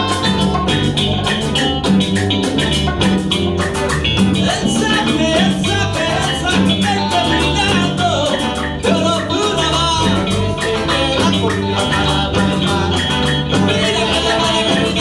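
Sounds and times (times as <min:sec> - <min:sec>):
live band playing cumbia: 0:00.0 - 0:15.0.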